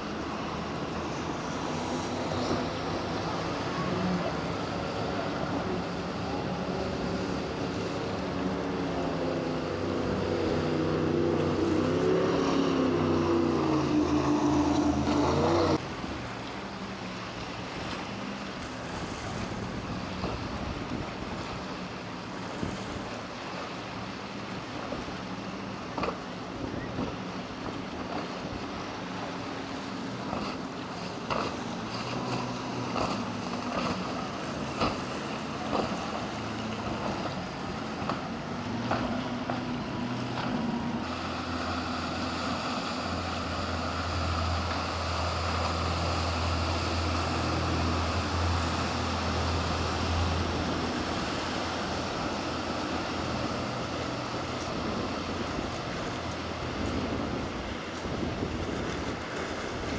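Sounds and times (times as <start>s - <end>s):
low engine drone: 0.0s - 59.9s
motorboat engines running: 0.0s - 59.9s
waves: 0.0s - 59.9s
wind: 0.0s - 59.9s.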